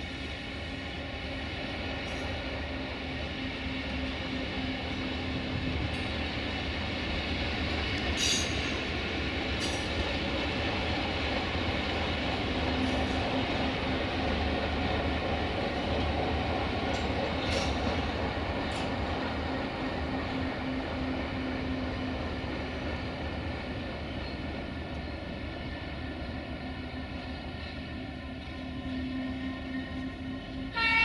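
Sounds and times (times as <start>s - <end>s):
locomotive engine drone: 0.0s - 31.0s.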